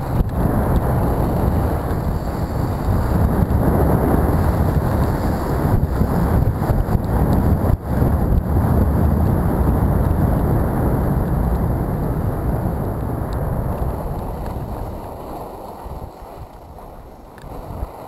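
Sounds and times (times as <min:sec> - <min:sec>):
skis scraping on snow: 0:00.0 - 0:18.0
wind rushing over microphone: 0:00.0 - 0:18.0.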